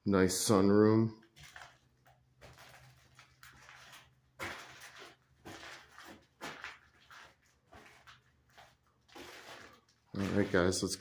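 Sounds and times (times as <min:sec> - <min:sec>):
footsteps on bare floor: 0:01.3 - 0:11.0.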